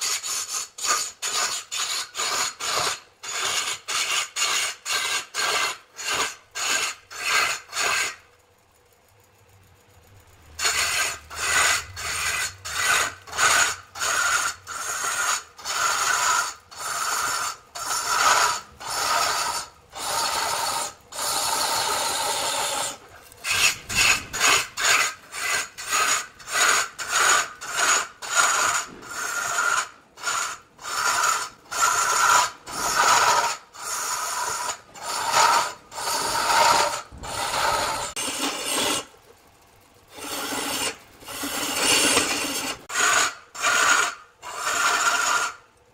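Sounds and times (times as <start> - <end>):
rasp scraping wood: 0.0 - 8.2, 10.6 - 39.1, 40.1 - 45.6.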